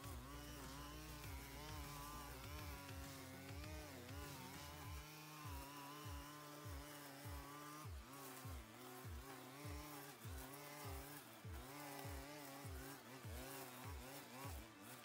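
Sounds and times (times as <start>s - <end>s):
string trimmer engine running: 0.0s - 15.0s.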